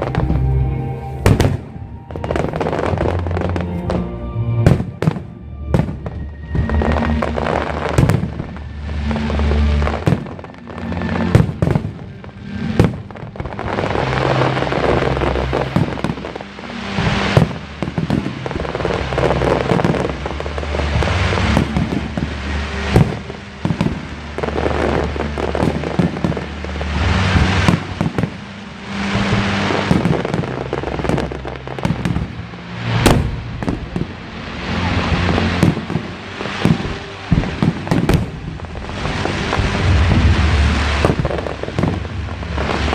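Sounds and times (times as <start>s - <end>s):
firework crackling: 0.0s - 42.9s
music with low bass line: 0.0s - 42.9s
firework shells bursting: 1.2s - 42.9s.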